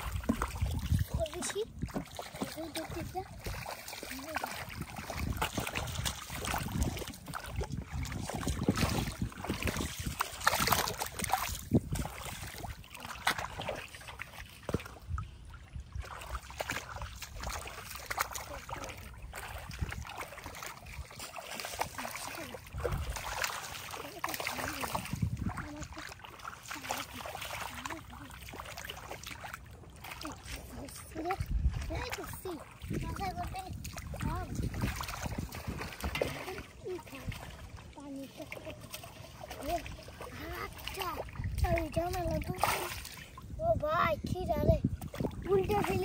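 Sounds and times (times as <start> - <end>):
splashing in shallow muddy water: 0.0 - 46.0.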